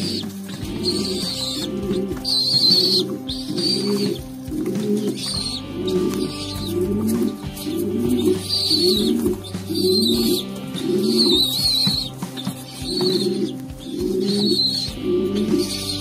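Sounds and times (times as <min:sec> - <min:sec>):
low pigeon coos: 0:00.0 - 0:16.0
pigeon squabs squealing: 0:00.0 - 0:16.0
wing flapping: 0:00.0 - 0:16.0.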